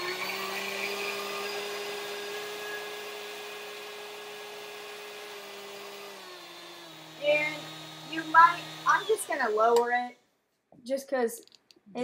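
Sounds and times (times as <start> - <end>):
stand mixer motor whirring: 0.0 - 9.7.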